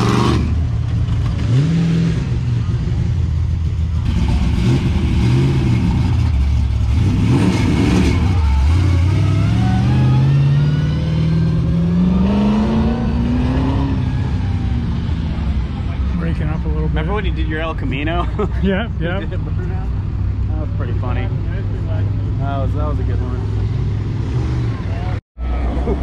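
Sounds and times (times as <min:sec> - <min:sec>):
car engine revving and accelerating: 0:00.0 - 0:03.1, 0:03.9 - 0:17.0, 0:21.2 - 0:25.9.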